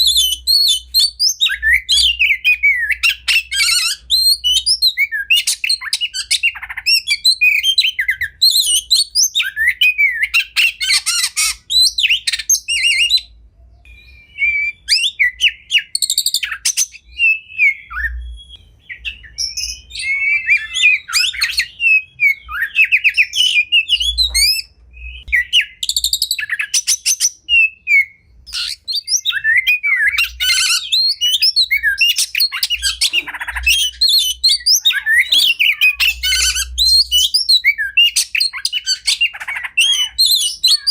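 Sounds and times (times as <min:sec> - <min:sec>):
songbird singing varied song: 0:00.0 - 0:40.9.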